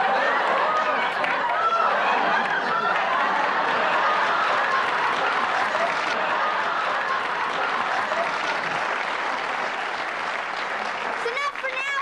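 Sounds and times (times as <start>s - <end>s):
audience applause: 0.0s - 12.0s
voices in crowd: 0.0s - 12.0s.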